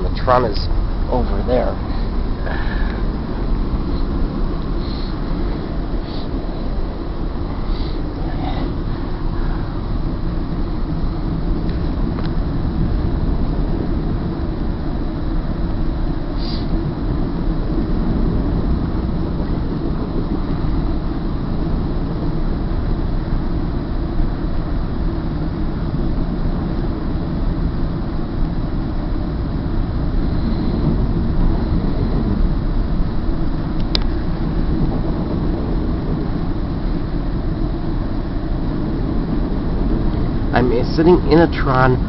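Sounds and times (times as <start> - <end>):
freight train wheels rumbling: 0.0 - 42.0.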